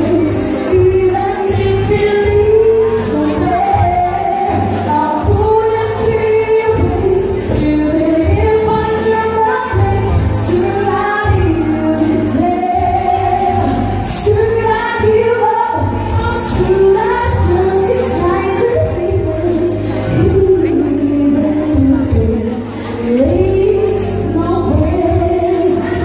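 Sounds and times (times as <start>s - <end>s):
backing music: 0.0s - 26.0s
woman singing into a microphone: 0.0s - 26.0s.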